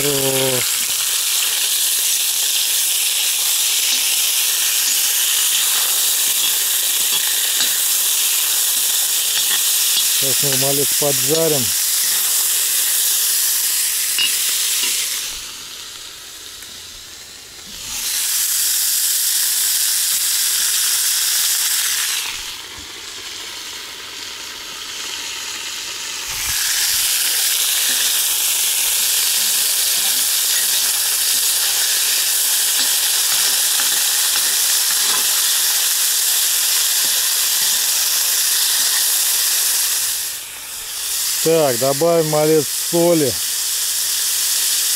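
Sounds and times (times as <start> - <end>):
meat sizzling in hot oil: 0.0 - 44.9.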